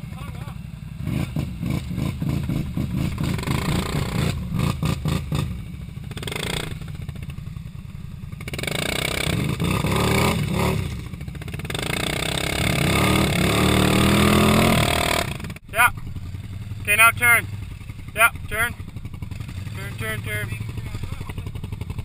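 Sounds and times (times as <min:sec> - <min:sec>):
atv engines revving: 0:00.0 - 0:22.0.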